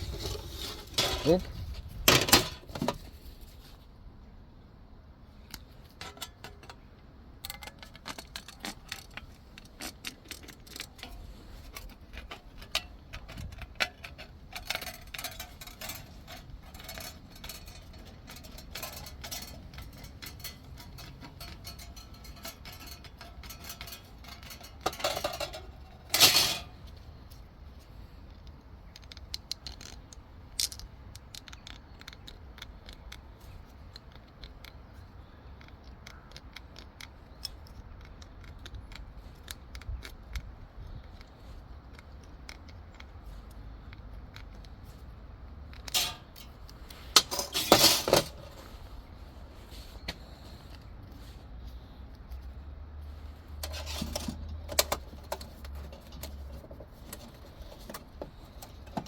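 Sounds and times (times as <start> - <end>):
metal parts and tools clinking: 0.0 - 3.2, 5.5 - 40.1, 40.8 - 49.1, 53.5 - 59.0.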